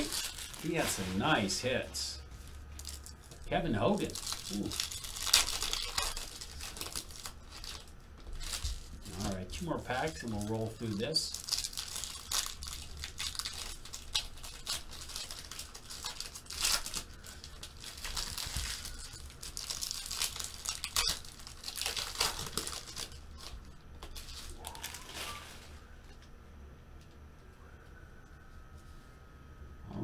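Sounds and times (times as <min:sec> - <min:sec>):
foil wrapper crinkling and tearing: 0:00.0 - 0:25.8.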